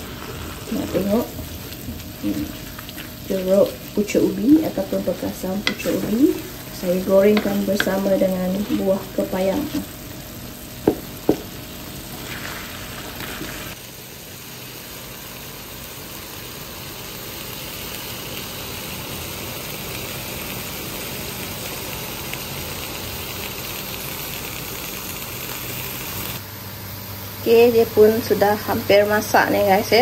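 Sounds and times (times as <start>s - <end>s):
leaves sizzling in a frying pan: 0.0s - 30.0s.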